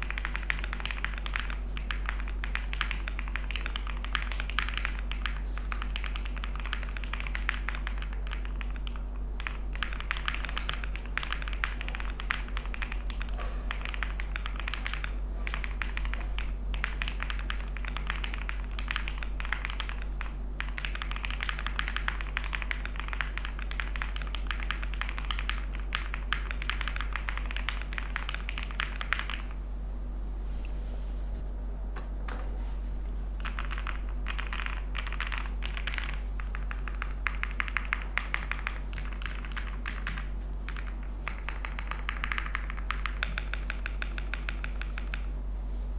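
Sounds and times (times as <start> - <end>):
mechanical keyboard typing: 0.0 - 29.5, 33.4 - 45.3
steady low hum: 0.0 - 45.9.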